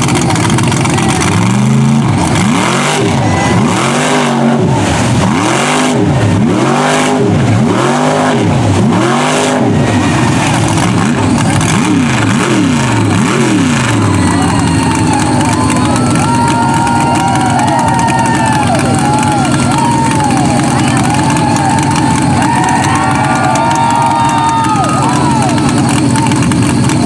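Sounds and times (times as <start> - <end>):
tires spinning in mud: 0.0 - 27.0
truck engine revving: 0.0 - 27.0.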